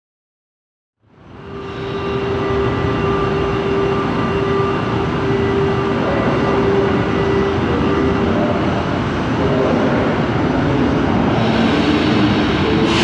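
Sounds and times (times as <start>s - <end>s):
metro train rumble: 1.0s - 13.0s
train whine: 1.0s - 13.0s.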